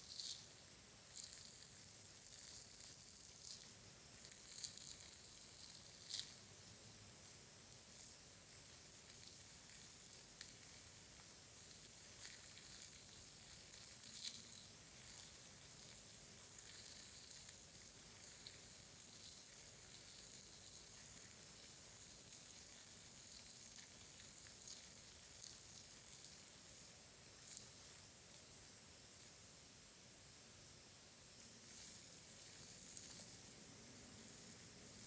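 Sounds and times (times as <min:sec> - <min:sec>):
soft crackling: 0:00.0 - 0:28.8, 0:31.5 - 0:35.0.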